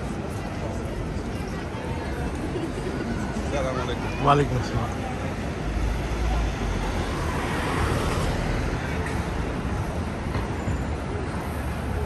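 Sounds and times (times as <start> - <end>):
road noise hum: 0.0 - 12.0.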